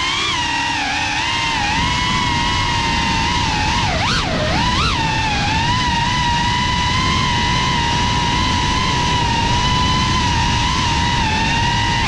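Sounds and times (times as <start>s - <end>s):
drone motors whining: 0.0s - 12.0s
propeller wash and wind: 0.0s - 12.0s.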